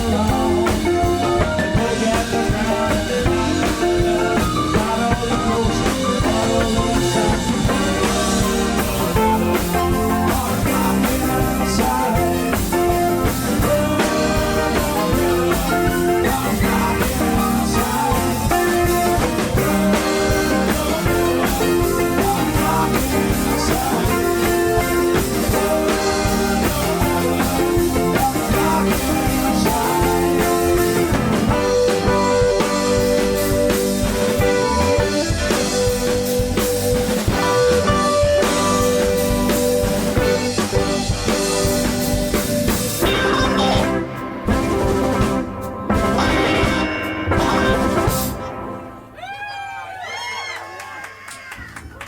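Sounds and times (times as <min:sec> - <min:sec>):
drum kit steady beat: 0:00.0 - 0:49.0
electric guitars: 0:00.0 - 0:49.3
bass guitar: 0:00.0 - 0:49.4
rock band playing: 0:00.0 - 0:49.5
keyboards: 0:00.0 - 0:49.9.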